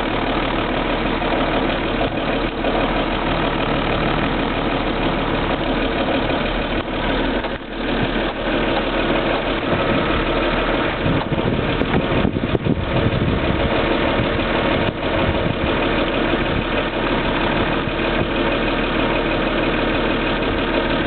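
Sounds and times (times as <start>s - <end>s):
car motor hum: 0.0s - 21.0s.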